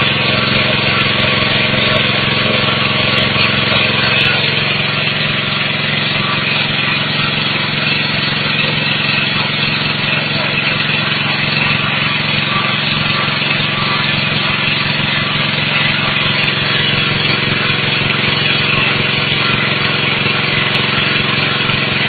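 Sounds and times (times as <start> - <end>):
pellet mill machine drone: 0.0 - 22.0.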